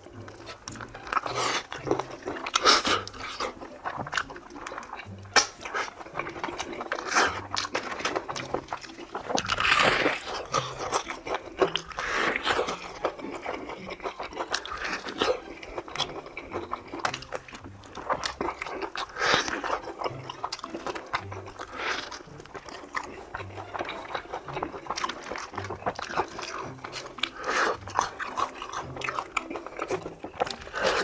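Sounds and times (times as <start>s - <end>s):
crunchy chewing of fried chicken: 0.0s - 31.0s
light background music: 0.0s - 31.0s.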